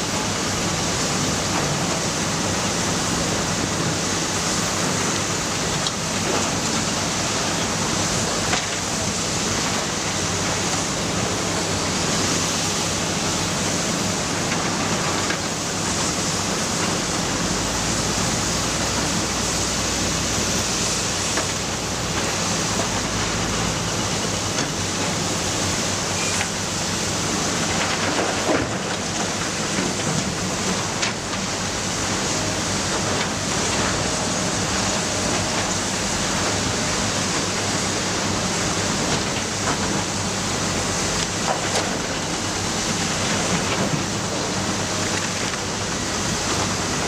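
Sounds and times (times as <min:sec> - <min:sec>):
excavator engine and hydraulics: 0:00.0 - 0:47.0.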